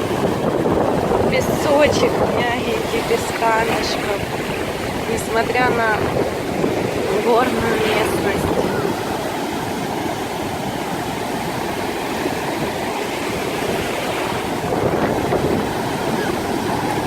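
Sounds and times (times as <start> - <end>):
surf breaking on beach: 0.0 - 17.0
wind rumbling on microphone: 0.0 - 17.0.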